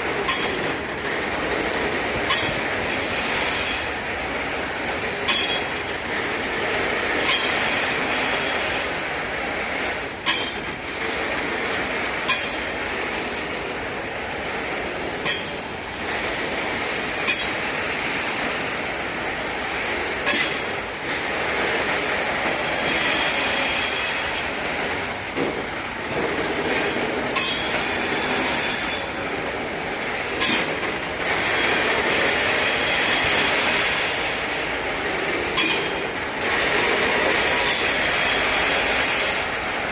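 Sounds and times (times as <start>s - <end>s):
wheels clacking over rail joints: 0.0s - 39.9s.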